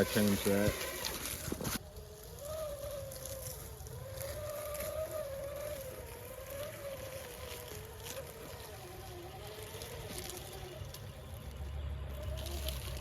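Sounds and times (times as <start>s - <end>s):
rc car electric motor whine: 0.0s - 13.0s.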